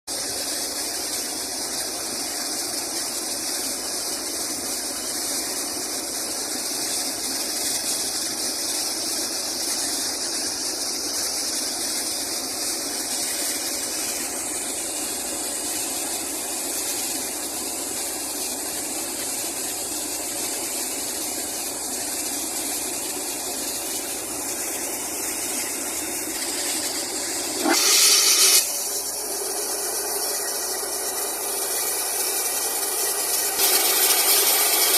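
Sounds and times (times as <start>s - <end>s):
rush of compressed air: 0.1s - 34.9s
water spraying: 0.1s - 34.9s.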